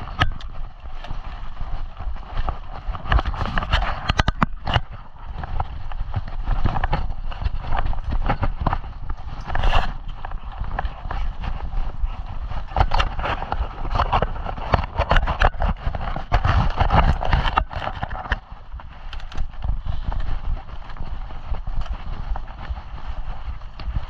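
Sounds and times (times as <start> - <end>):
bike rattling: 0.0 - 24.0
bike tyres crunching on dirt: 0.0 - 24.0.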